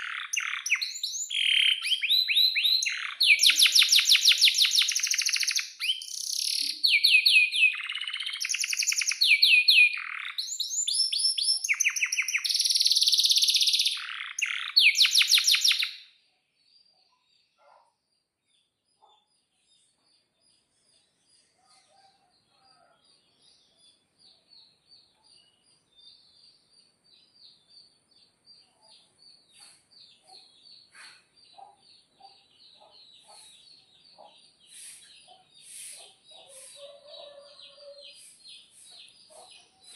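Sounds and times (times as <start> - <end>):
canary singing in trills: 0.0 - 17.9, 18.9 - 39.9
faint rapid bird twittering: 7.7 - 39.9.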